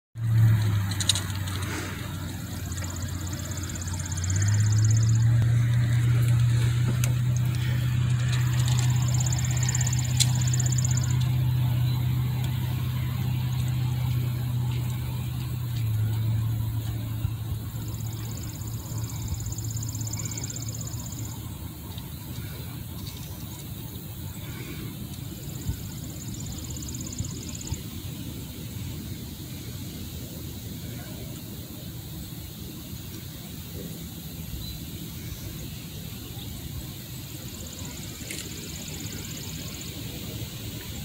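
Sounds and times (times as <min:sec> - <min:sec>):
truck engine idling: 0:00.2 - 0:34.3.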